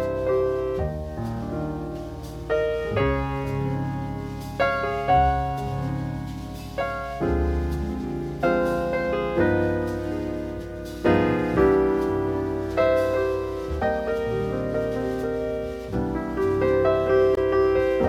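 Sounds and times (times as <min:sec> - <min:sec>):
low bass notes: 0:00.0 - 0:18.0
slow jazz piano chords: 0:00.0 - 0:18.0.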